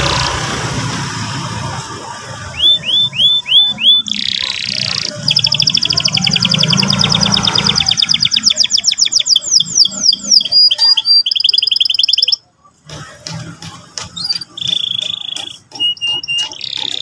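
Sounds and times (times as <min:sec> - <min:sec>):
canary singing: 0:02.2 - 0:17.0.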